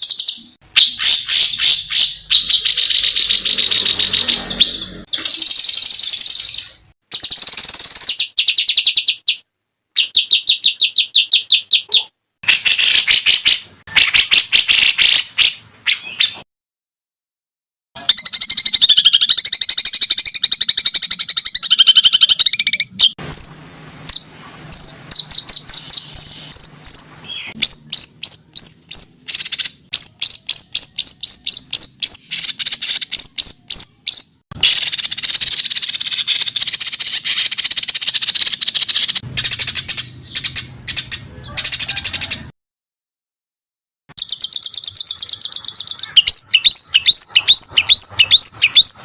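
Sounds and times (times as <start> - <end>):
sharp high bird chirps: 0.0 - 16.4, 18.0 - 42.5, 44.1 - 49.0.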